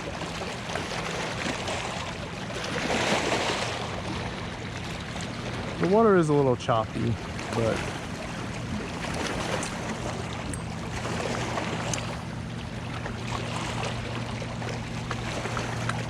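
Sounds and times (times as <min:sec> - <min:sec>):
lake water washing against rocks: 0:00.0 - 0:16.0
motorboat engine humming: 0:00.0 - 0:16.0.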